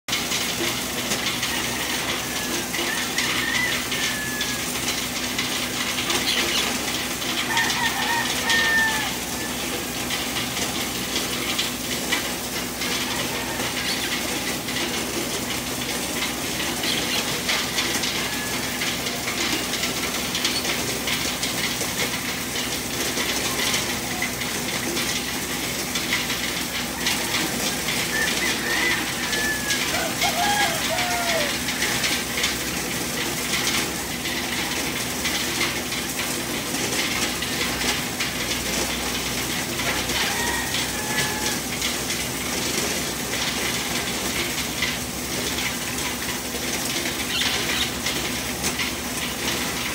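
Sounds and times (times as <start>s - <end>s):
corn sheller clattering: 0.1s - 49.9s
machine hum: 0.1s - 49.9s.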